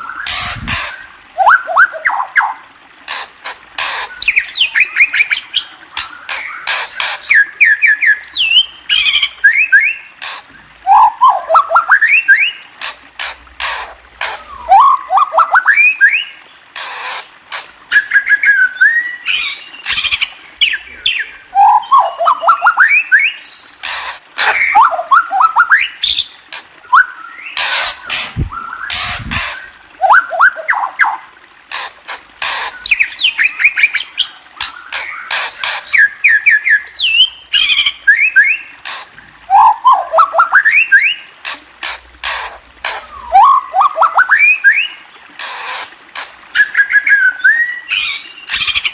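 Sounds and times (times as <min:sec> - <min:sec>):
harsh bird clicking calls: 0:00.0 - 0:48.9.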